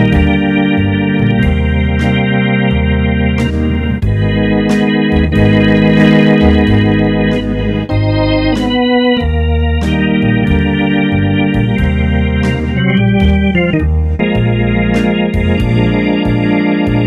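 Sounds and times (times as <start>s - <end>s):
accordion playing slow melody: 0.0s - 17.0s.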